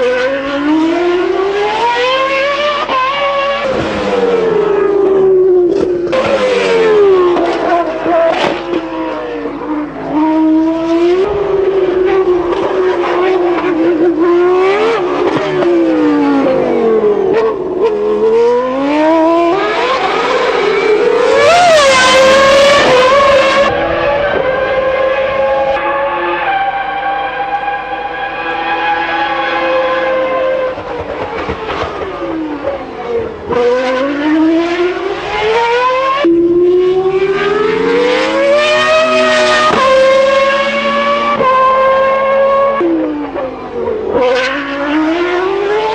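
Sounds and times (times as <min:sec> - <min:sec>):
racing car engine revving: 0:00.0 - 0:45.9.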